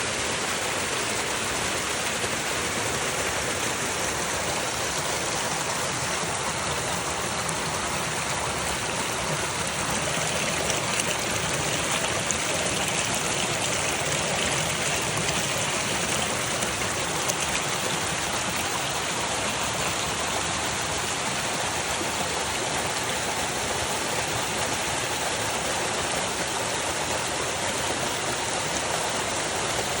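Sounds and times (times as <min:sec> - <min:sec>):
stream running over rocks: 0:00.0 - 0:30.0.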